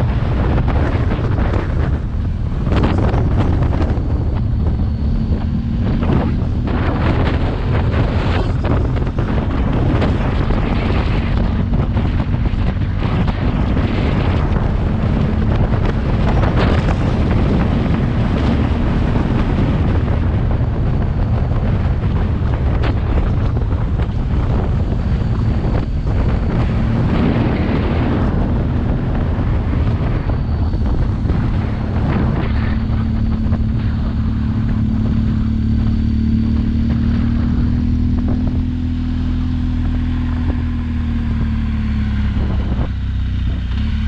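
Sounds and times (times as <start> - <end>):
motorcycle engine drone: 0.0 - 44.0
wind buffeting microphone: 0.0 - 44.0.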